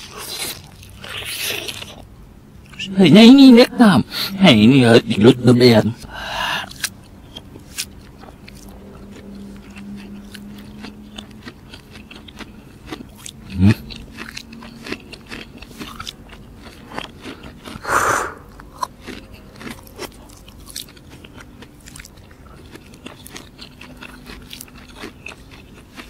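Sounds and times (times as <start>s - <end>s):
crisp bites and chewing: 0.0s - 2.1s, 6.7s - 26.0s.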